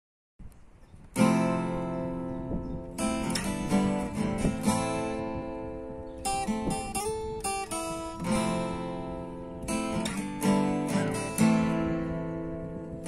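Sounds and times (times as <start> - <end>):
acoustic guitar strumming: 1.2 - 13.0.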